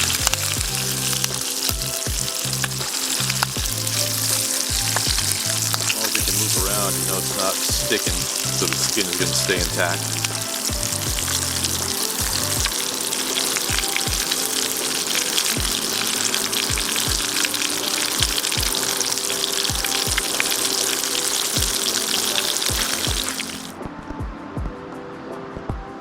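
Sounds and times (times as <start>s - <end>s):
fish sizzling in a pan: 0.0s - 23.7s
background music with beat: 0.0s - 26.0s.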